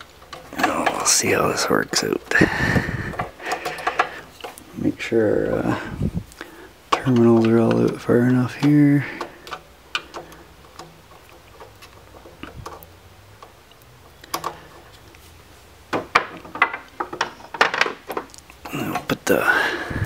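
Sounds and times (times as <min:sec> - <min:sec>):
wires clicking into terminals: 0:00.0 - 0:20.0.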